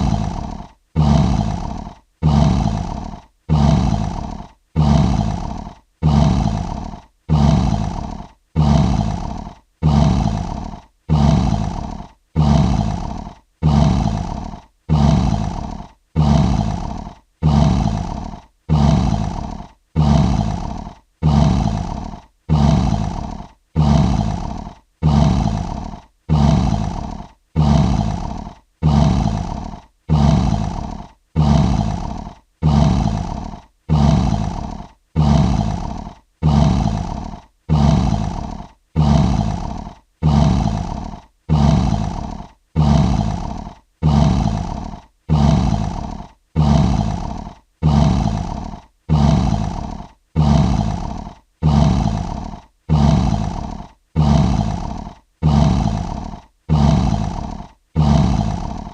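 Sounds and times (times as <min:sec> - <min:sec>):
lion roaring: 0:00.0 - 0:58.9.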